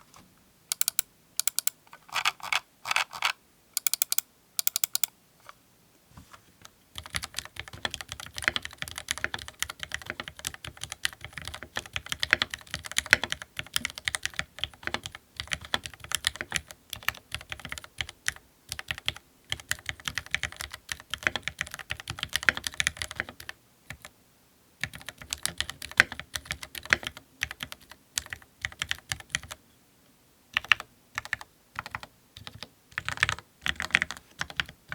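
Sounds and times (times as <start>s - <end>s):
mechanical keyboard typing: 0.7s - 5.1s, 7.0s - 24.1s, 24.8s - 29.6s, 30.6s - 34.9s.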